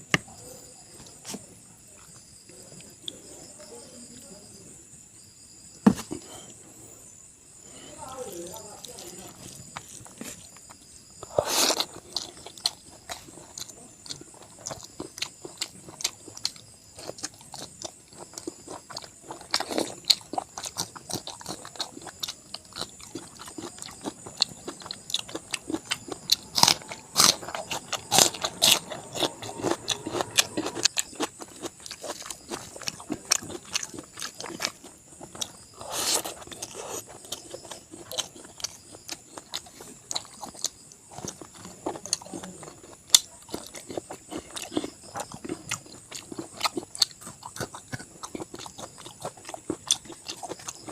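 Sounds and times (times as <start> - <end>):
chewing with wet smacks: 8.3 - 50.9.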